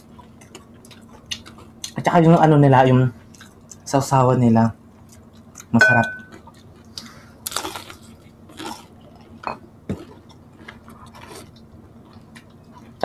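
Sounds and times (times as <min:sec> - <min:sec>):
crunchy chewing: 0:00.0 - 0:02.5, 0:03.2 - 0:03.9, 0:04.8 - 0:13.0.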